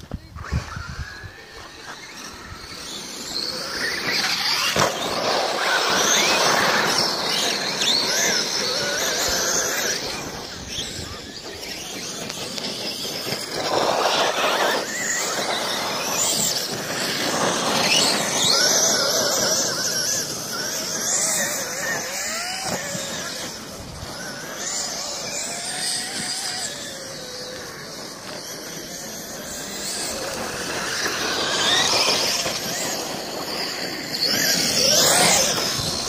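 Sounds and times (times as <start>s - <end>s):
high-pitched electric motor whine: 0.0s - 36.0s
tyres on gravel: 0.0s - 36.0s.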